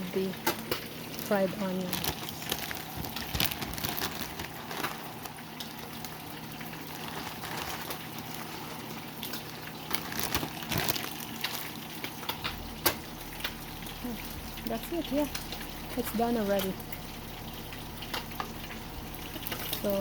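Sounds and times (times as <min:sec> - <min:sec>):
broth bubbling in a pot: 0:00.0 - 0:20.0.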